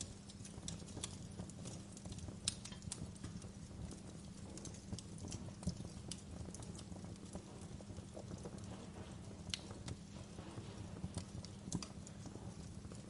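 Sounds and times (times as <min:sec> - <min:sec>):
fire snapping and popping: 0:00.0 - 0:13.0
low rumble of flames: 0:00.0 - 0:13.0.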